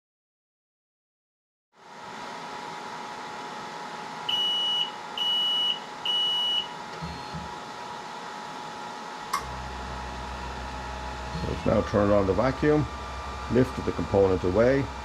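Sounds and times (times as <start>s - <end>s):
fan hum: 1.9s - 15.0s.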